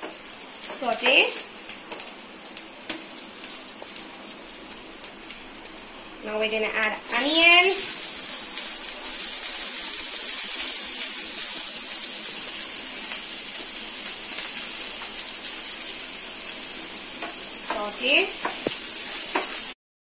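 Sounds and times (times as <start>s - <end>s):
onion sizzling in hot oil: 0.0s - 19.8s.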